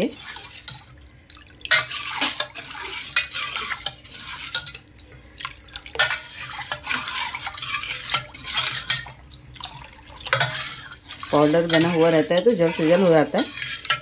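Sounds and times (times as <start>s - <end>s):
ladle stirring water in pot: 0.0s - 14.0s.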